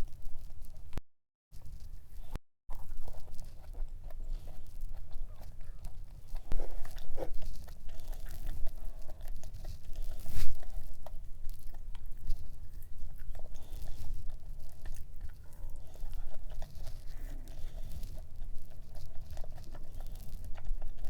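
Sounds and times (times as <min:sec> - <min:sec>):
crunchy cookie bites and chewing: 0:02.7 - 0:21.0.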